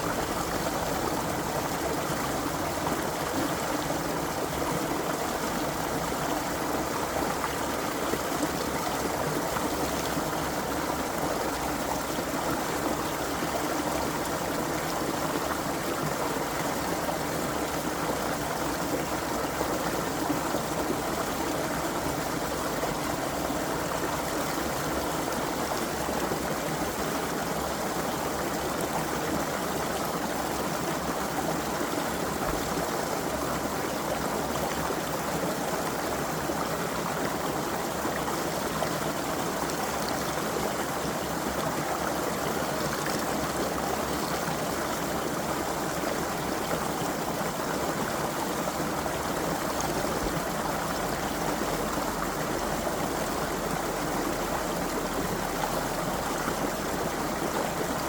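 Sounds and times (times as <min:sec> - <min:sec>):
creek water running over rocks: 0:00.0 - 0:58.0.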